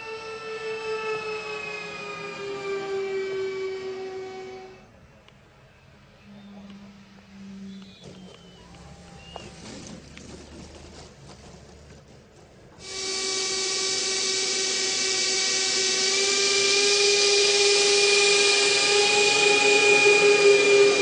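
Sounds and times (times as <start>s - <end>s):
ducted-fan motors whining: 0.0s - 21.0s.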